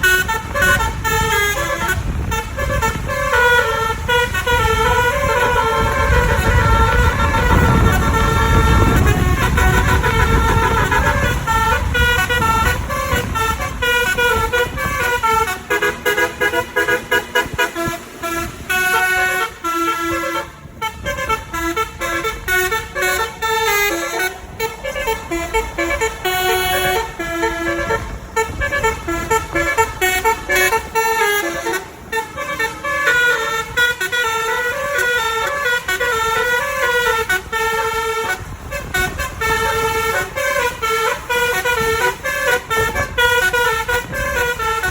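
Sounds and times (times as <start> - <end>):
musical bus horn playing a tune: 0.0 - 44.9.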